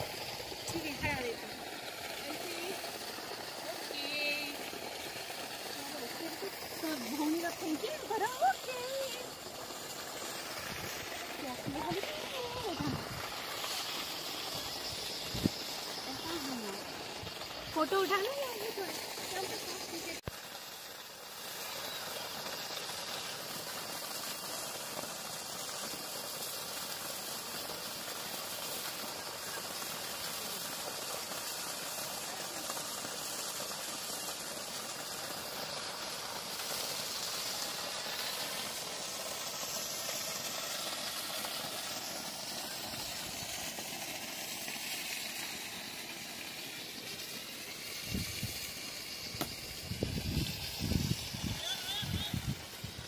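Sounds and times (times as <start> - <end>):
waterfall hissing: 0.0 - 53.0.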